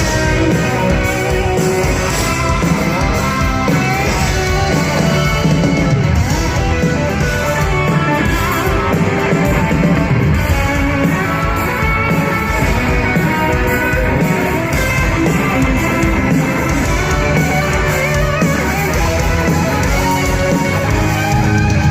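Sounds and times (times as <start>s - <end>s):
live rock band instrumental: 0.0s - 21.9s.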